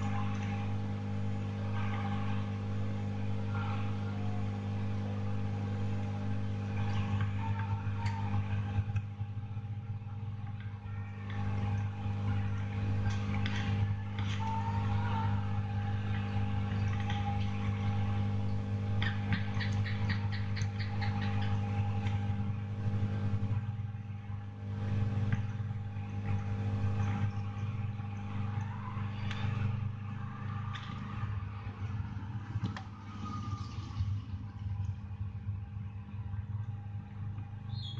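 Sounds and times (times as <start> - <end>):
appliance humming: 0.0 - 37.9.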